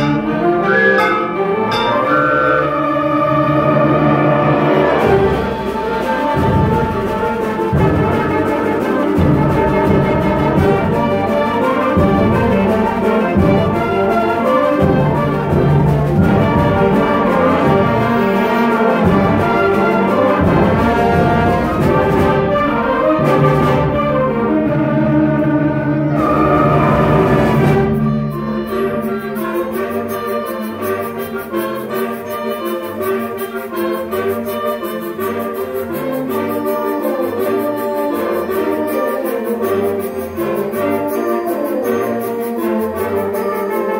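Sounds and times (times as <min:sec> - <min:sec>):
concert band playing: 0:00.0 - 0:43.9.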